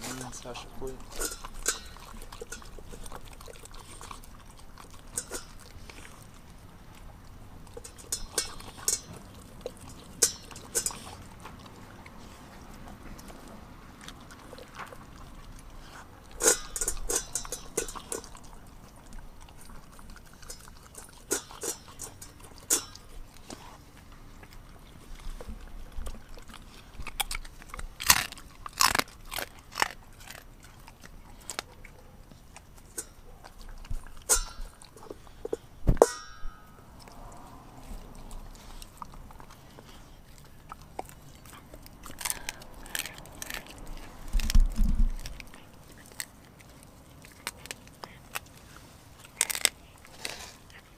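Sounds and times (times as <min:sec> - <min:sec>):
dog chewing and crunching food: 0:00.0 - 0:50.9.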